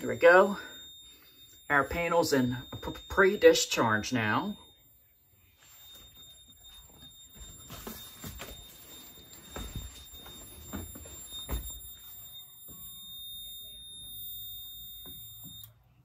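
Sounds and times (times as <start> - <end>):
high-pitched alarm tone: 0.0 - 15.8.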